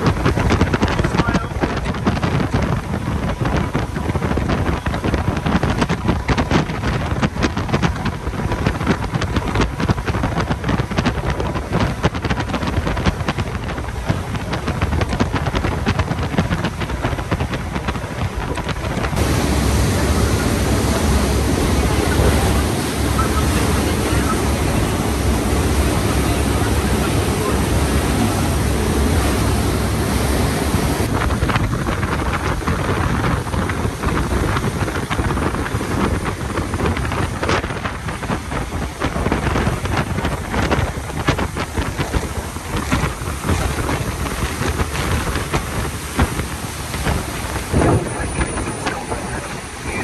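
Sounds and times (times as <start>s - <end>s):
boat wake churning: 0.0s - 50.0s
heavy low rumble: 0.0s - 50.0s
wind buffeting microphone: 0.0s - 50.0s.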